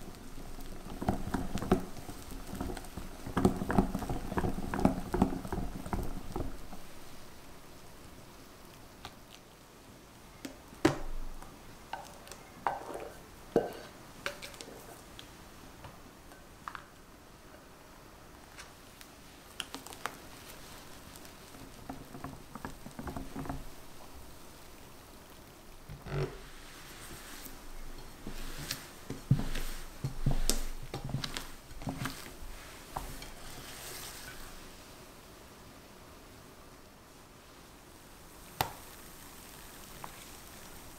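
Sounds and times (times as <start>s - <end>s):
spatula folding batter: 0.0s - 17.0s, 18.4s - 34.9s.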